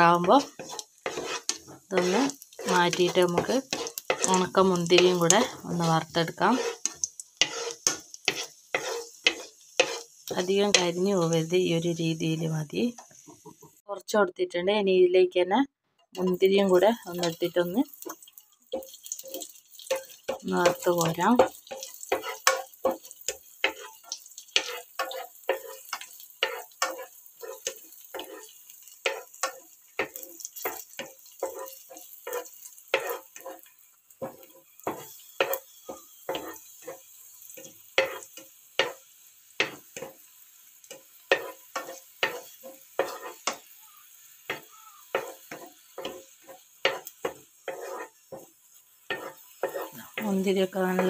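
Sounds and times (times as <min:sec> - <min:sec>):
spatula scraping and tapping pan: 0:00.0 - 0:11.5, 0:16.0 - 0:51.0
light sizzle: 0:00.0 - 0:15.4, 0:16.0 - 0:51.0.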